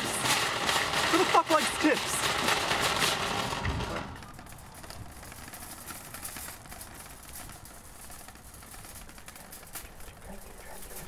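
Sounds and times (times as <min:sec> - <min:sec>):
low steady outdoor background: 0:00.0 - 0:11.0.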